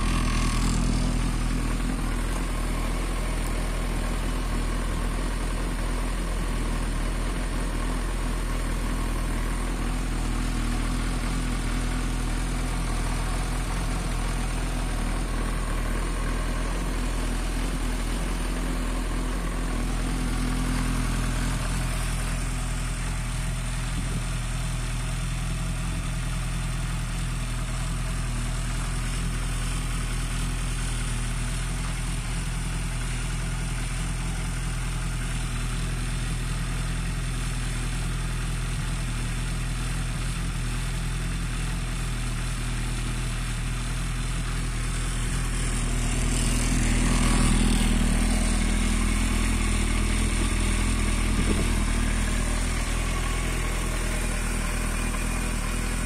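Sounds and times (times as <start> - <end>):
motorcycle engine idling steadily: 0.0 - 56.0.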